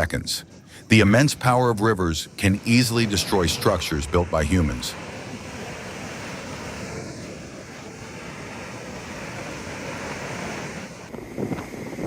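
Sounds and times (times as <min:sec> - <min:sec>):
river rushing: 0:00.9 - 0:11.1
gusty wind on microphone: 0:02.3 - 0:12.0.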